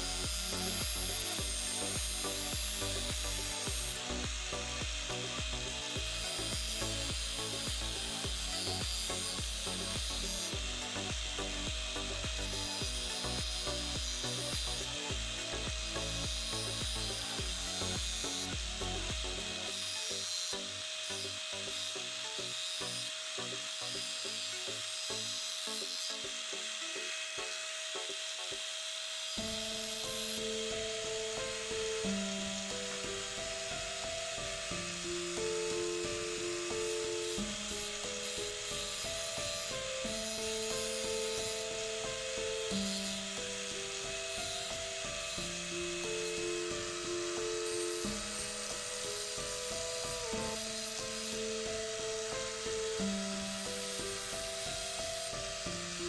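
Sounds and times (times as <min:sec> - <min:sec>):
tool rasping on wood: 0:00.0 - 0:56.0.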